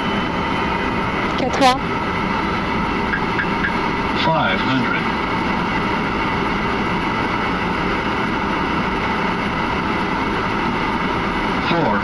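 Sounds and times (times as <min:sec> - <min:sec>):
aircraft slipstream and engine noise: 0:00.0 - 0:12.0.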